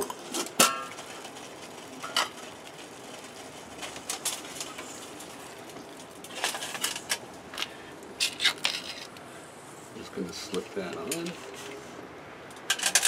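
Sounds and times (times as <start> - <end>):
water boiling in a pot: 0.0 - 11.6.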